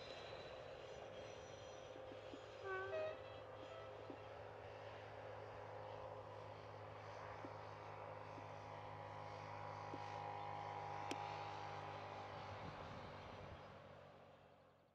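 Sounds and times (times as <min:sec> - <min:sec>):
locomotive engine drone with whine: 0:00.0 - 0:14.7.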